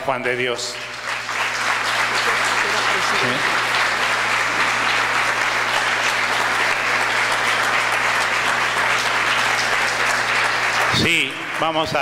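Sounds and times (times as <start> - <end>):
audience applauding: 0.2 - 12.0.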